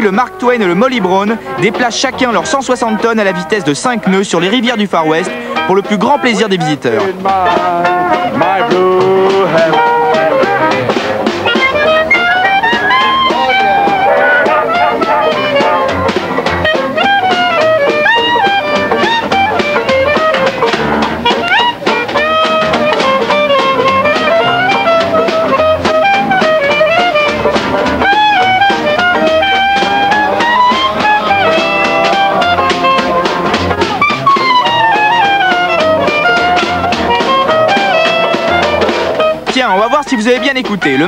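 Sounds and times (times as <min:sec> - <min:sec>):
jazz tune led by brass: 0:00.0 - 0:41.0.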